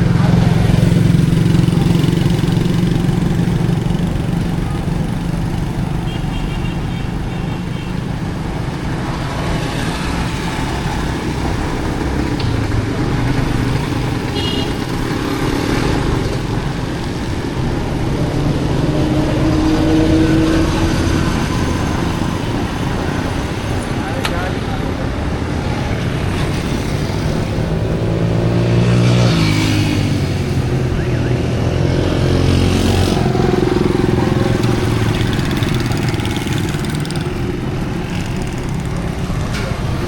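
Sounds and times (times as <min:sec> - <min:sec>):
motorcycle and car engines passing: 0:00.0 - 0:40.0.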